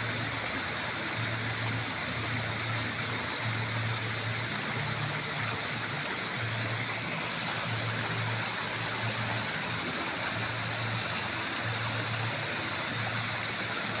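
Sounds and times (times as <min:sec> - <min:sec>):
fountain water pouring: 0:00.0 - 0:14.0.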